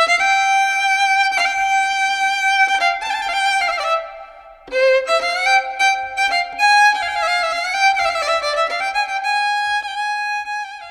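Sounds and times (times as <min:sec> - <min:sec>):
violin melody with sliding notes: 0:00.0 - 0:10.9.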